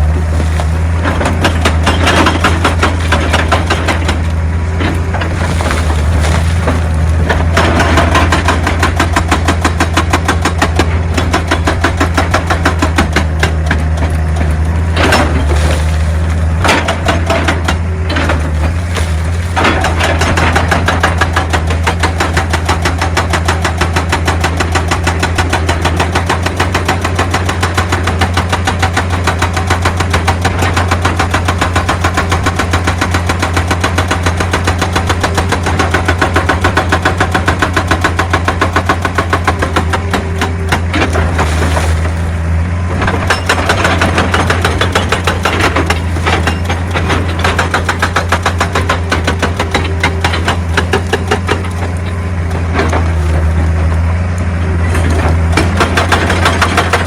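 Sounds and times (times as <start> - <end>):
excavator diesel engine clattering: 0.0 - 57.0.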